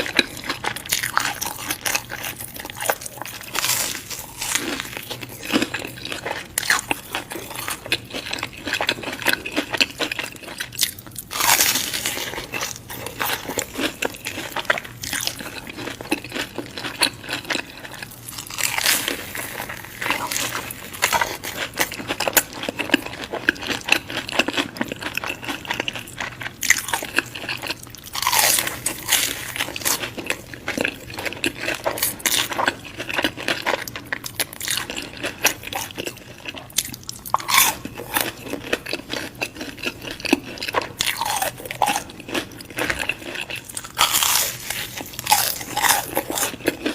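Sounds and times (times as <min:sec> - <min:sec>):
person chewing crunchy food: 0:00.0 - 0:46.9.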